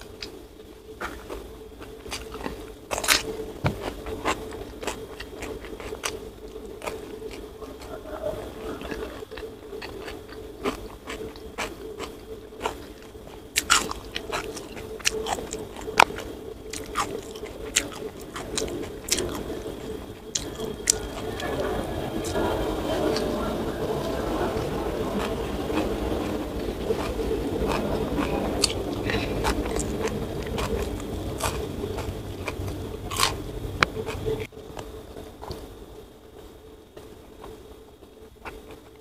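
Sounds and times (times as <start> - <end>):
chewing crunches: 0.0 - 35.7
steady low hum: 0.0 - 39.0.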